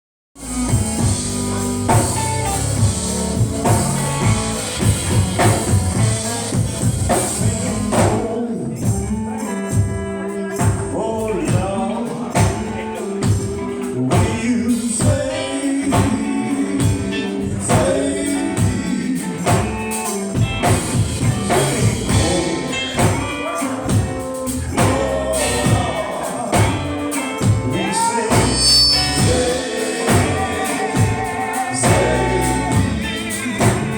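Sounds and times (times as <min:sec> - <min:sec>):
band with pulsing beat: 0:00.4 - 0:33.9
gospel singing: 0:00.5 - 0:33.9.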